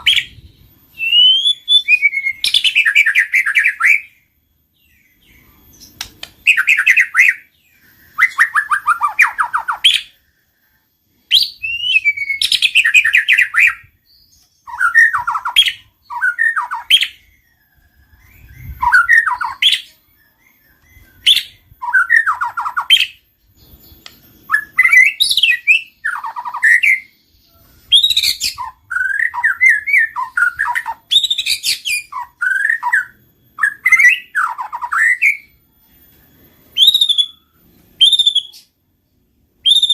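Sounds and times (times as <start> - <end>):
bird singing whistled phrases and trills: 0.0 - 38.8, 39.6 - 39.9.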